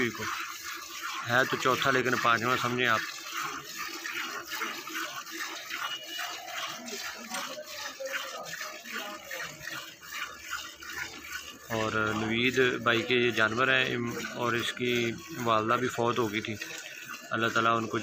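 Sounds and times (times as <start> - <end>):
milk squirting into steel pail: 0.0 - 18.0.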